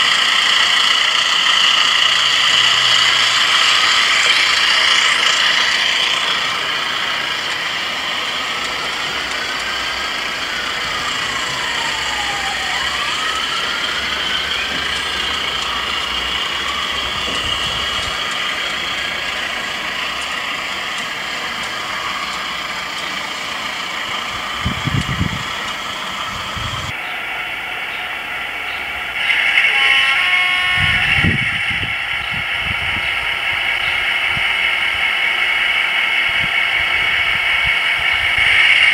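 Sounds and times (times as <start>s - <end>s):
diesel engine sound from small speaker: 0.0s - 35.6s.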